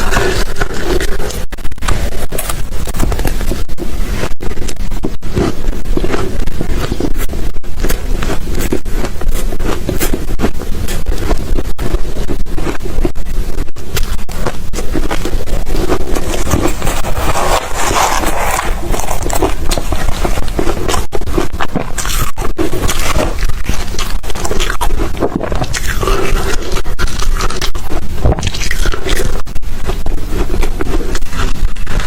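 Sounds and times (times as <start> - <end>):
ice crunching and chewing: 0.0 - 32.0.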